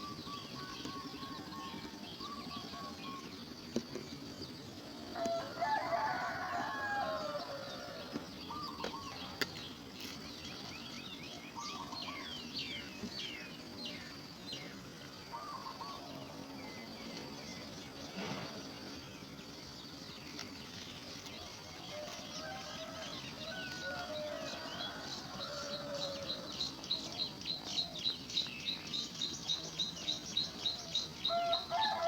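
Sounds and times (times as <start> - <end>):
birds warbling: 0.0 - 32.0.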